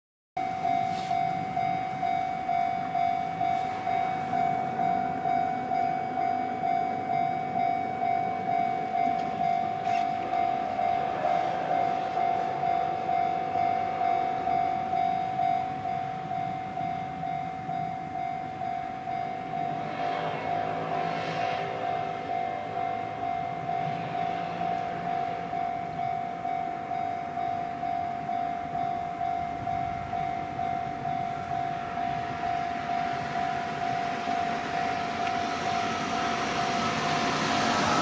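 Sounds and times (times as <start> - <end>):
level crossing warning bell ringing: 0.4 - 38.0.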